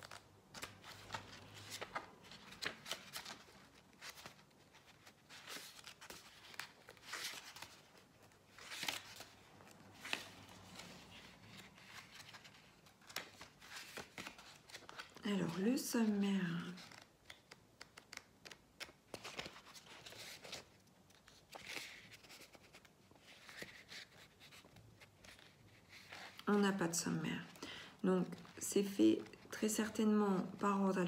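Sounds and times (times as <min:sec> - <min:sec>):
book pages flipping: 0:00.0 - 0:26.6.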